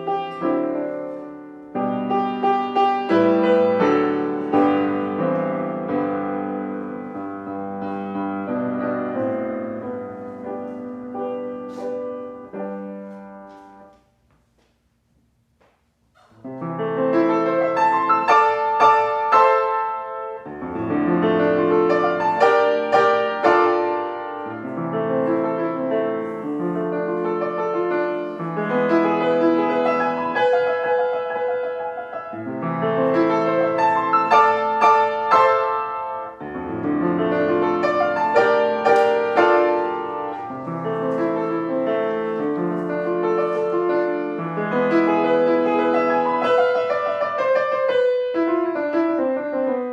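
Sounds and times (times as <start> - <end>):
solo piano music: 0.0 - 14.2, 15.2 - 49.9.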